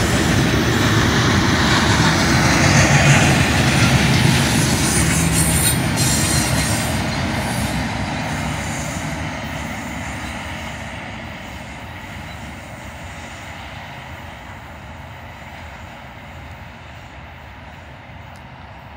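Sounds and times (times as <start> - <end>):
freight train rolling on rails: 0.0 - 18.9.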